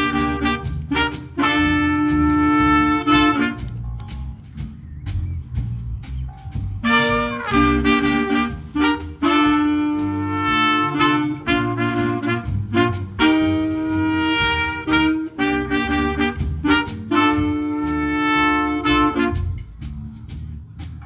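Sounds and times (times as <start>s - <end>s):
horn section chords: 0.0s - 20.5s
big band playing jazz: 0.0s - 21.0s.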